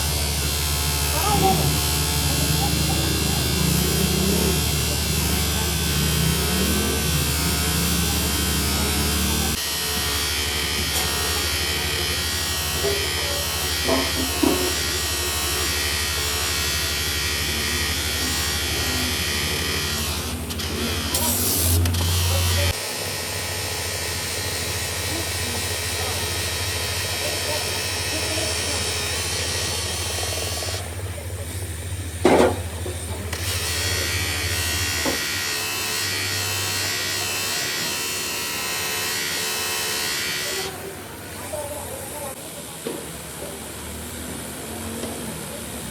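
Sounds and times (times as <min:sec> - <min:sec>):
power tool whirring: 0:00.0 - 0:41.6
workshop machinery buzzing: 0:00.0 - 0:45.9.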